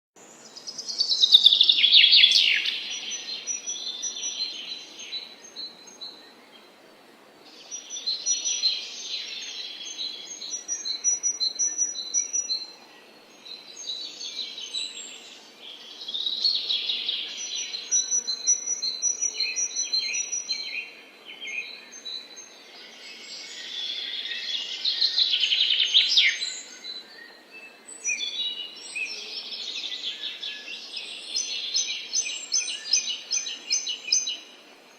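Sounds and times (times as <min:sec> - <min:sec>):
faint background hiss: 0:00.2 - 0:34.9
songbirds chirping and trilling: 0:00.2 - 0:34.9.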